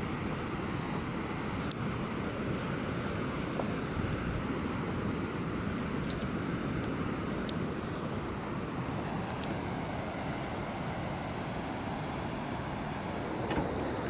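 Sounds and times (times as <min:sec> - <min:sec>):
ocean surf rumble: 0:00.0 - 0:14.0.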